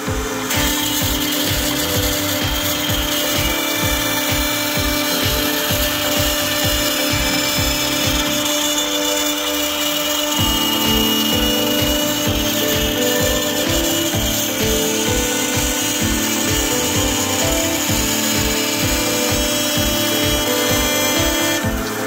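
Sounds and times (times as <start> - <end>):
background music with beat: 0.0 - 22.0
cnc router spindle whine: 0.0 - 22.0.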